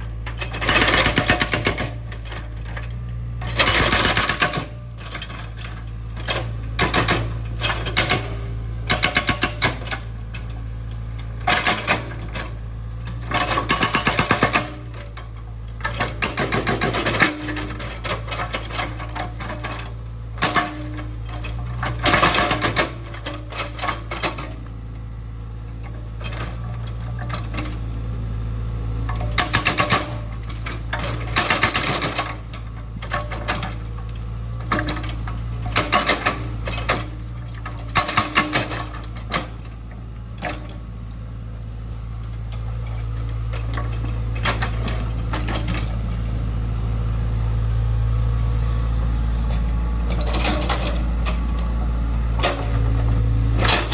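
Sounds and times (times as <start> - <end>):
diesel engine droning: 0.0 - 53.9
excavator clanking and scraping: 0.0 - 53.9.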